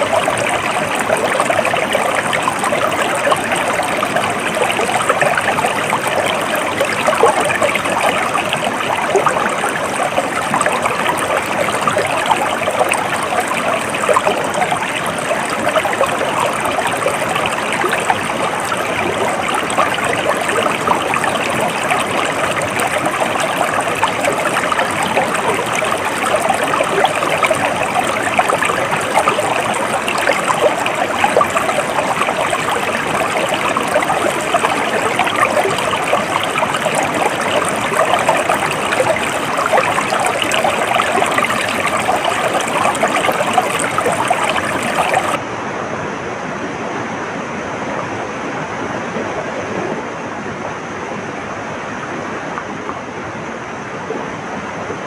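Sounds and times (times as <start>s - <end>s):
stream water rushing and trickling: 0.0s - 55.0s.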